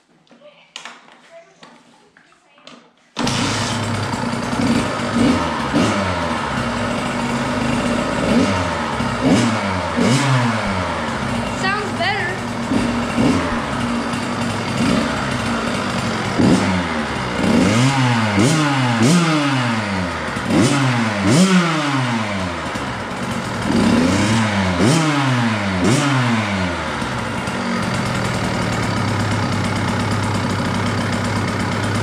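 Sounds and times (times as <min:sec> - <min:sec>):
two-stroke engine revving: 0:03.2 - 0:32.0.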